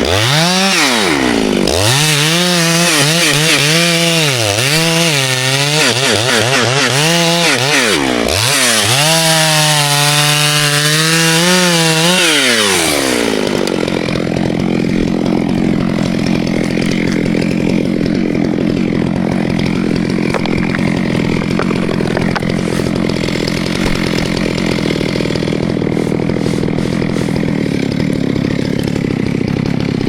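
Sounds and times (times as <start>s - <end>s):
chainsaw engine revving high: 0.0s - 30.0s.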